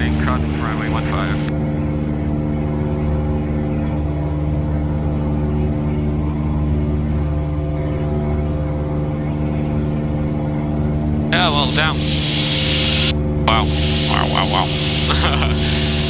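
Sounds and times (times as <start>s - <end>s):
light aircraft engine droning: 0.0s - 16.0s.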